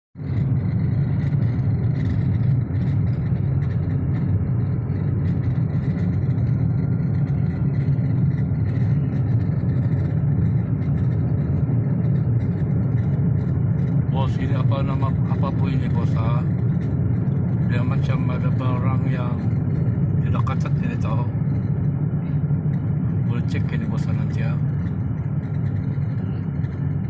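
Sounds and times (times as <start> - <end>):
car engine running: 0.2 - 27.0
faint rattling in dashboard: 0.2 - 27.0.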